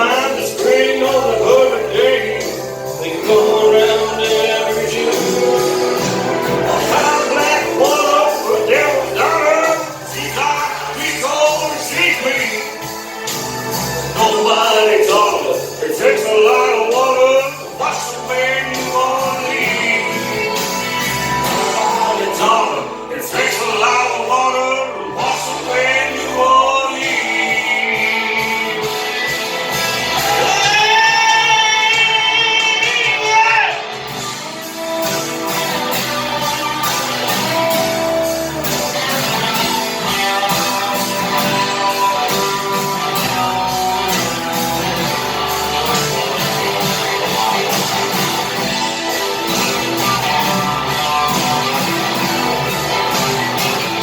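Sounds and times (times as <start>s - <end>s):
steady drum beat: 0.0s - 22.8s, 26.9s - 54.0s
song with harmony vocals: 0.0s - 54.0s
strummed guitar: 0.0s - 54.0s.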